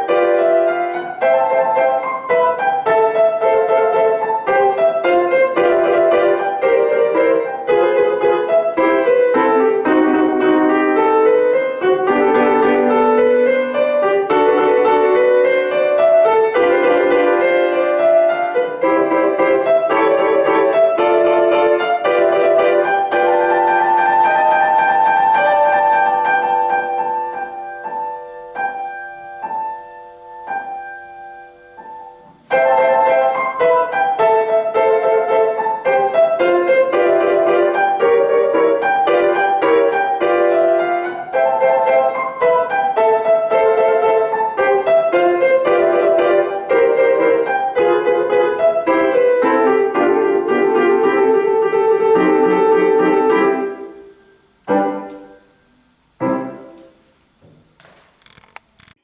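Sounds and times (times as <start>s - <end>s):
solo piano classical music: 0.0s - 59.0s.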